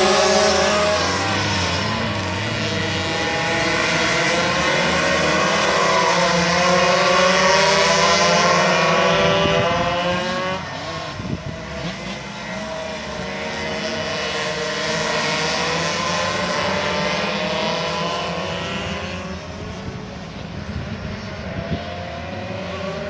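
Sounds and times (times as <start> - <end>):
minibike engines revving: 0.0 - 23.0.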